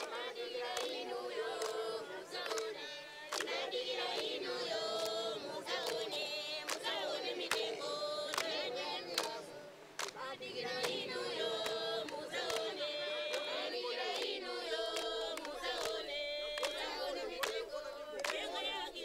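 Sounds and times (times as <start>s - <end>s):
group singing in harmony: 0.0s - 19.0s.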